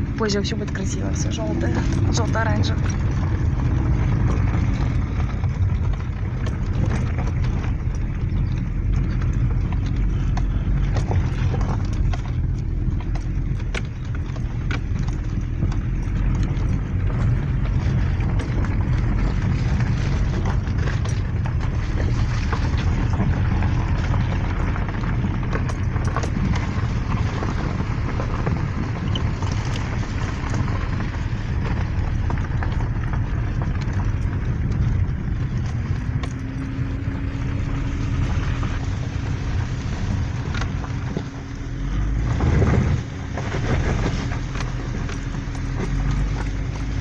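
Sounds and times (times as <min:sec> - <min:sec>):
knocks and rattles: 0:00.0 - 0:47.0
tyre and road rumble: 0:00.0 - 0:47.0.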